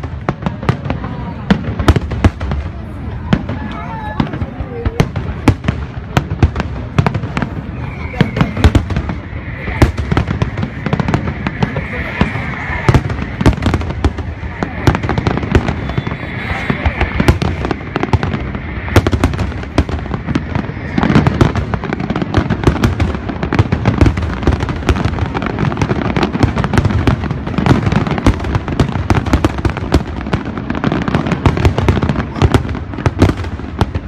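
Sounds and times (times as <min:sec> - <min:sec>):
firework crackling: 0:00.0 - 0:34.0.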